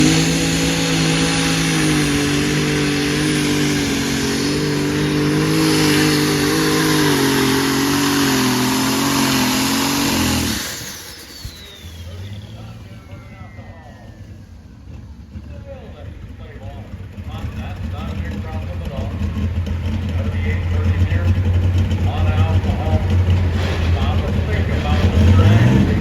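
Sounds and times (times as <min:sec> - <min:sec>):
pulling tractor engine revving loud: 0:00.0 - 0:26.0.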